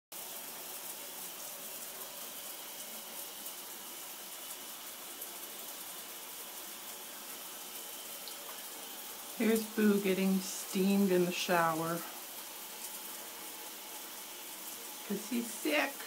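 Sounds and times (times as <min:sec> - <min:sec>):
shower water spray hissing: 0:00.2 - 0:16.0.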